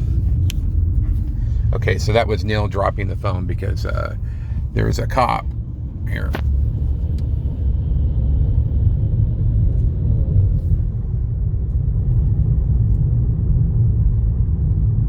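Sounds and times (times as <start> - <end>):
moving car rumble: 0.0 - 15.0.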